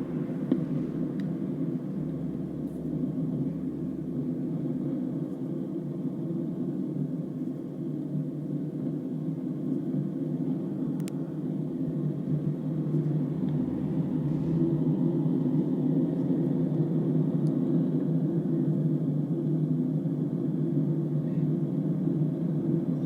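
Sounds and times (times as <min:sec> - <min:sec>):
bus engine and road drone: 0:00.0 - 0:23.0.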